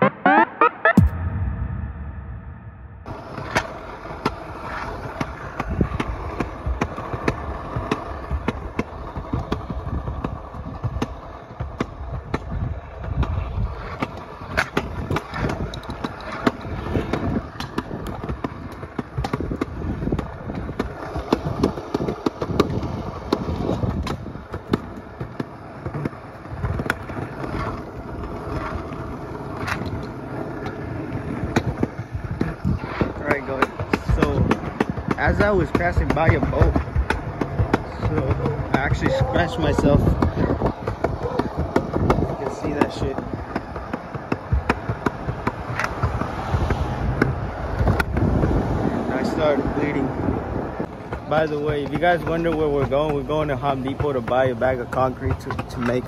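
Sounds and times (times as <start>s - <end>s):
scooter wheels rolling on concrete: 3.1s - 56.0s
wheels clacking over joints: 3.5s - 56.0s.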